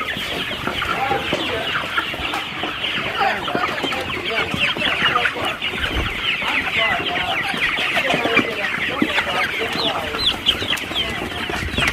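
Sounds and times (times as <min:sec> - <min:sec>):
chickens clucking: 0:00.0 - 0:11.9.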